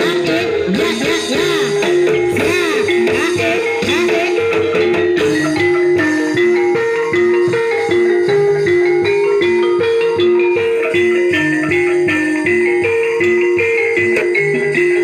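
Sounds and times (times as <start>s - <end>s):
steady drum rhythm: 0.0s - 15.0s
struck pitched melody: 0.0s - 15.0s.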